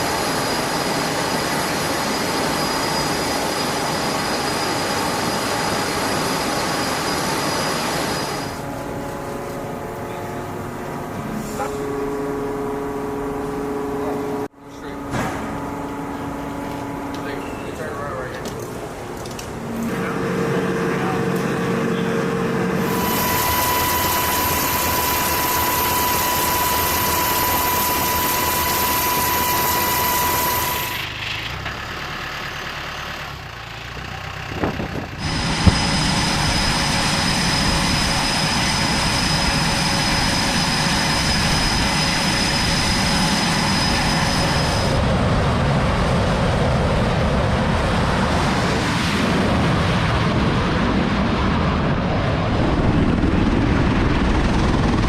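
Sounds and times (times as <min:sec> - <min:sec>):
whining tones: 0:00.0 - 0:31.2, 0:34.6 - 0:50.4
loud machinery noise: 0:00.0 - 0:55.0.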